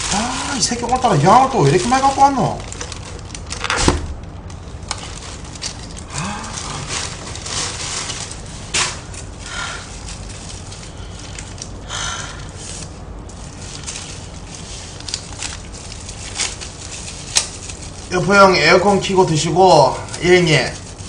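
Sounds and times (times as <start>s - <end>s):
plastic packaging rustling: 0.0s - 21.0s.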